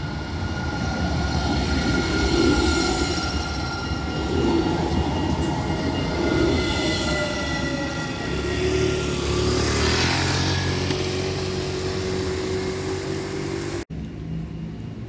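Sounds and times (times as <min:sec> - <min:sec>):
street noise: 0:00.0 - 0:15.0
tram motors whining: 0:00.0 - 0:15.0
wheels rumbling on rail: 0:00.0 - 0:15.0.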